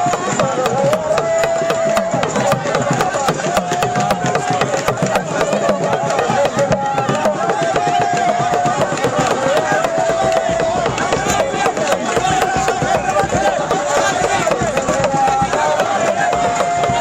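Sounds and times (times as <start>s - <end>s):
fast drumming: 0.0s - 17.0s.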